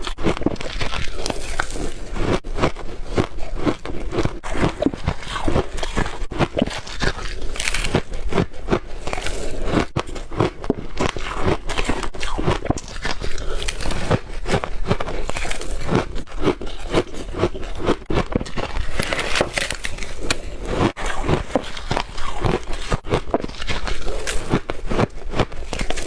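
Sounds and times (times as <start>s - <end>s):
crunchy ice chewing: 0.0s - 26.0s.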